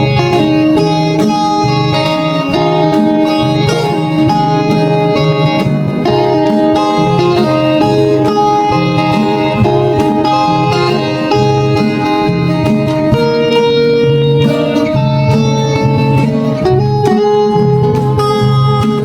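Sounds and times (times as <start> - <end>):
low bass line: 0.0 - 19.0
plucked guitar music: 0.0 - 19.0.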